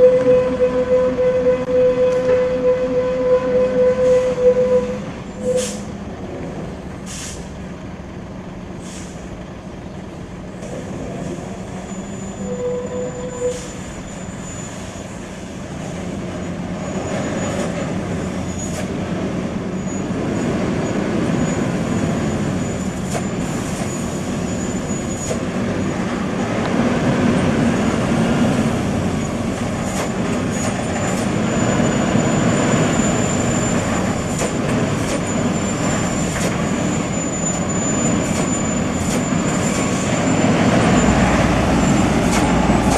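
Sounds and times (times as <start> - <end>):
heavy truck engine: 0.0 - 42.9.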